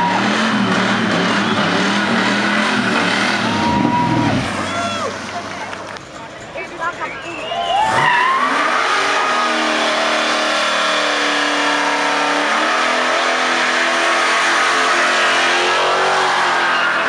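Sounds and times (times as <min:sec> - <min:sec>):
car engine revving high: 0:00.0 - 0:05.9, 0:07.8 - 0:17.0.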